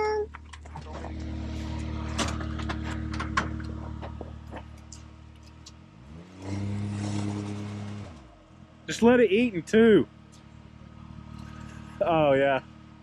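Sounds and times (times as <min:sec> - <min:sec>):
engine running and revving: 0:00.3 - 0:13.0.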